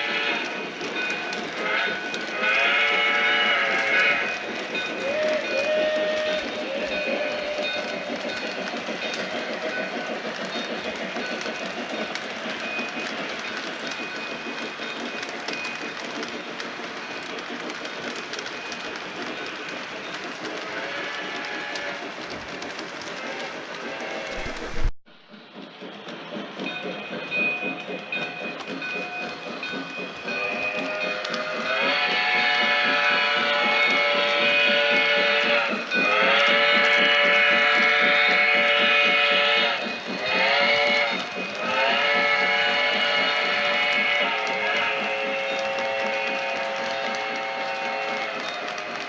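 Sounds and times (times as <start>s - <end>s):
model train wheels clattering: 0.0s - 49.0s.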